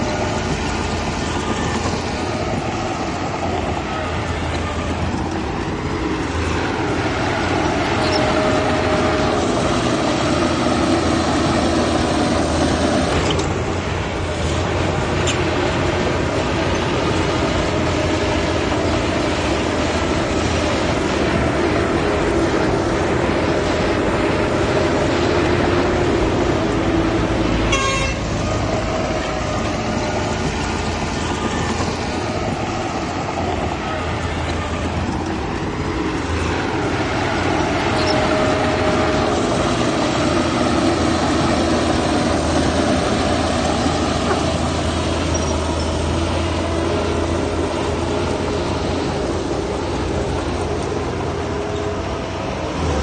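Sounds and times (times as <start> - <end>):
diesel engines droning: 0.0 - 53.0.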